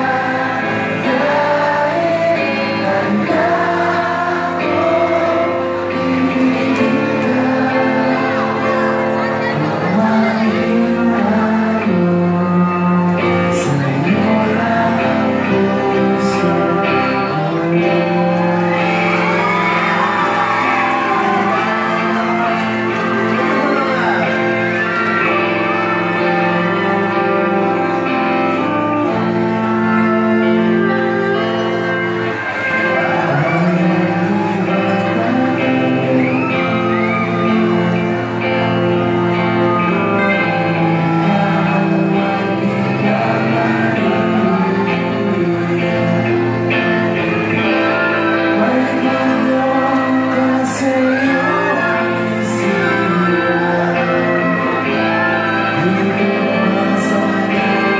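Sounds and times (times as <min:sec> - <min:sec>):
live band playing: 0:00.0 - 0:57.9
person singing: 0:00.0 - 0:57.9.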